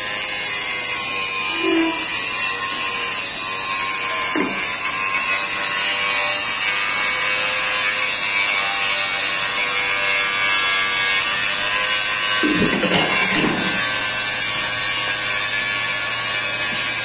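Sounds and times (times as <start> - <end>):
angle grinder grinding steel: 0.0 - 17.0.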